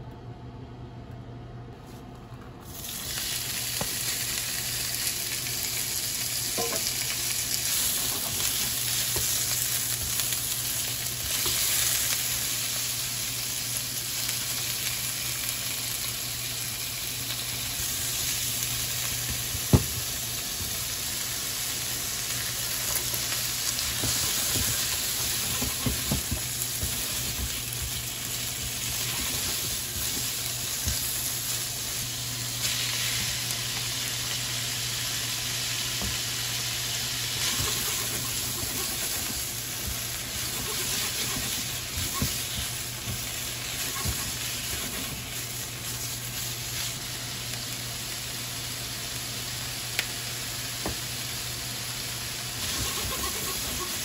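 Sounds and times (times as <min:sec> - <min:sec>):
pork sizzling in oil: 0:02.6 - 0:54.0.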